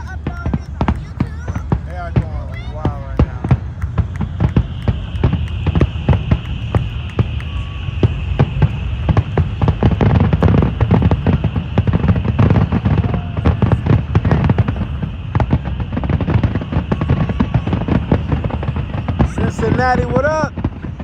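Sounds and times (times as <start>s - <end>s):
deep rumble: 0.0s - 21.0s
firework bursts and bangs: 0.0s - 21.0s.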